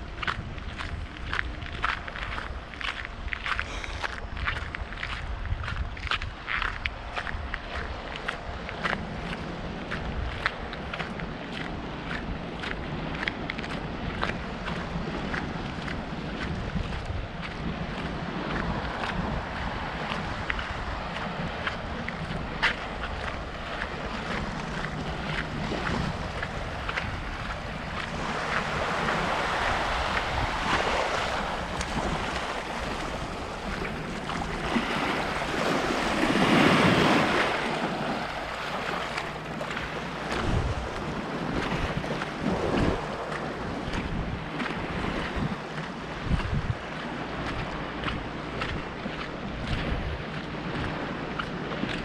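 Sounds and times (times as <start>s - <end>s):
sea waves washing onto shore: 0.0s - 52.0s
wind buffeting microphone: 0.0s - 52.0s.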